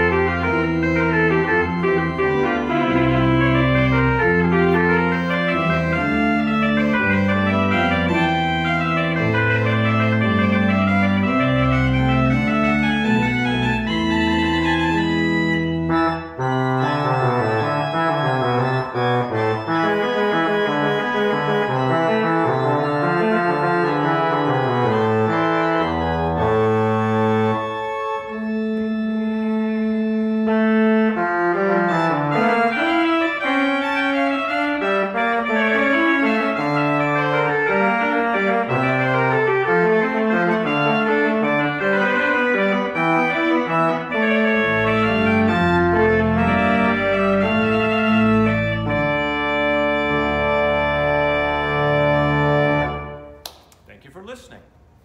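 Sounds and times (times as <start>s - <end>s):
pipe organ playing: 0.0s - 53.4s.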